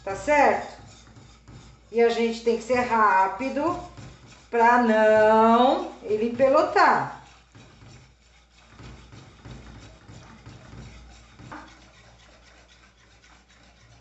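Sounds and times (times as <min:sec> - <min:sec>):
whisk scraping in metal pot: 0:00.0 - 0:14.0.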